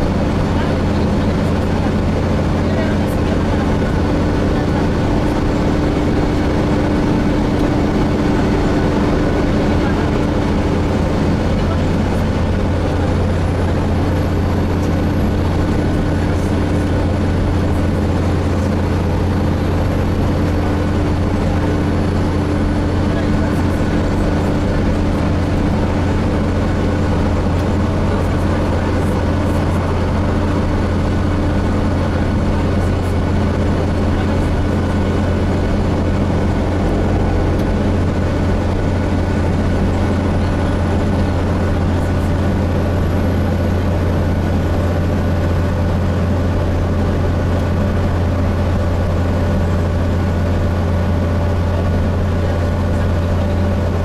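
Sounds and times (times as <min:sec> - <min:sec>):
bus diesel engine droning: 0:00.0 - 0:54.0
road noise: 0:00.0 - 0:54.0.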